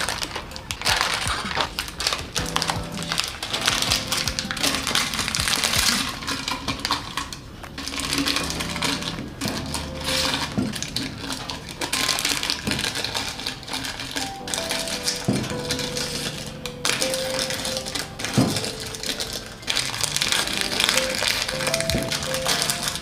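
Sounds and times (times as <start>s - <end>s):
plastic packets crinkling: 0.0s - 23.0s
soft background music: 0.0s - 23.0s.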